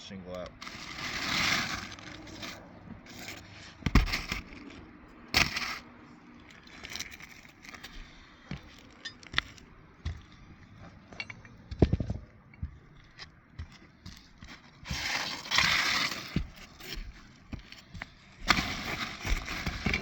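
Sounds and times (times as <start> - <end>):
shingles crackling: 0.4 - 11.0, 12.7 - 20.0.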